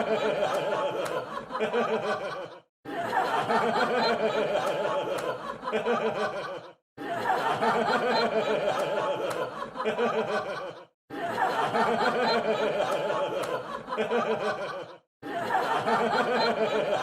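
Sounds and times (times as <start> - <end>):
crowd laughing: 0.0 - 17.0.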